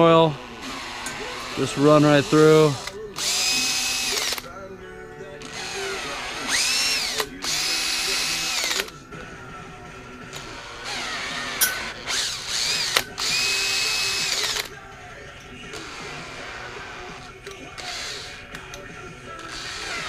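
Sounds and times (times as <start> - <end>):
power drill boring metal: 0.0 - 4.5, 5.3 - 20.0.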